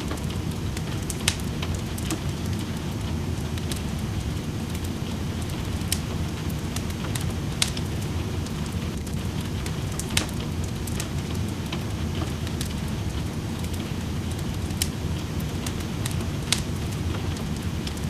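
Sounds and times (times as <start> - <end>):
rain rushing: 0.0 - 18.0
wood fire crackling and popping: 0.0 - 18.0.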